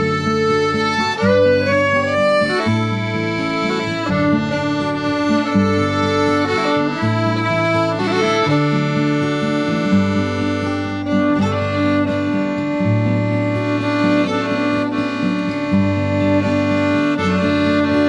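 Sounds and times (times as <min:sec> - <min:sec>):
accordion music: 0:00.0 - 0:18.0.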